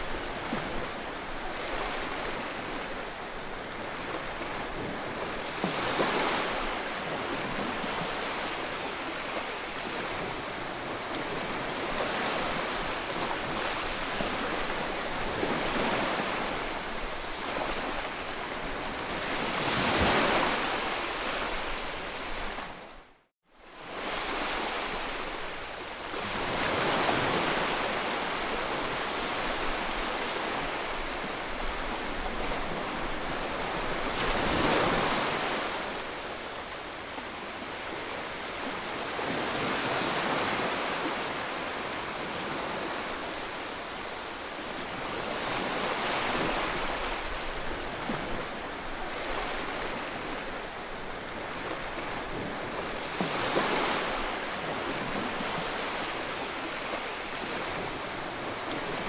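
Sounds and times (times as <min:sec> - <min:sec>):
ocean waves breaking: 0:00.0 - 0:22.9, 0:23.8 - 0:59.0.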